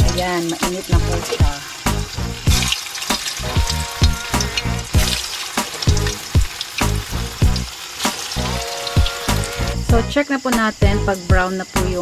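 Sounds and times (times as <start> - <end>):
background music with beat: 0.0 - 10.2
oil sizzling: 0.0 - 10.2.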